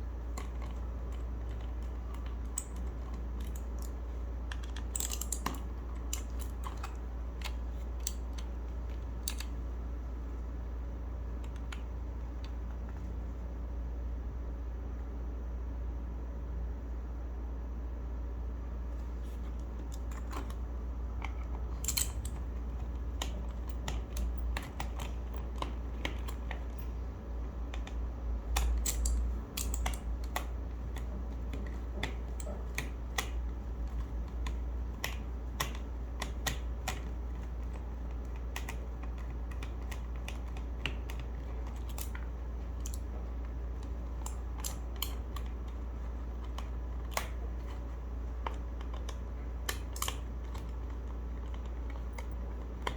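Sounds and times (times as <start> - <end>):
steady low hum: 0.0 - 52.9
mechanical keyboard keys clicking: 0.2 - 9.6, 19.5 - 52.9.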